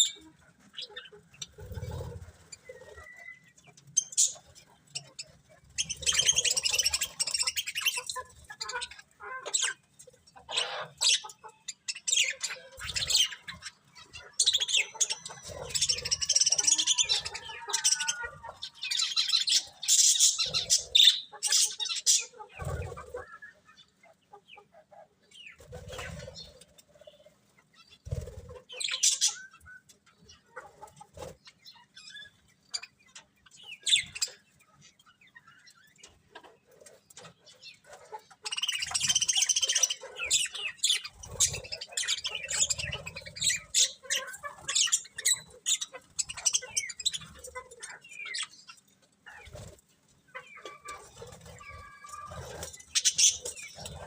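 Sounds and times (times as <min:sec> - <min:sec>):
budgerigars chirping: 0:00.0 - 0:27.2, 0:27.8 - 0:49.7, 0:50.4 - 0:54.0.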